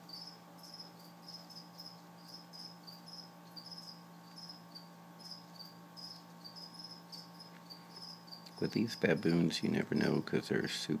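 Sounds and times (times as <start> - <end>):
crickets chirping: 0.0 - 10.7
faint steady hum: 0.0 - 11.0.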